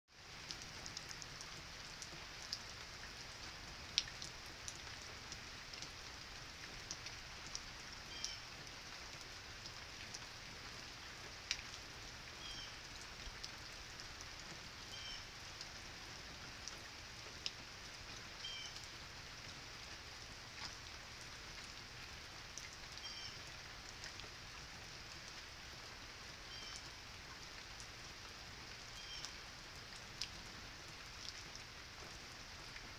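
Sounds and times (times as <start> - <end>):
steady rain: 0.1 - 32.9
raindrops ticking: 0.2 - 32.9.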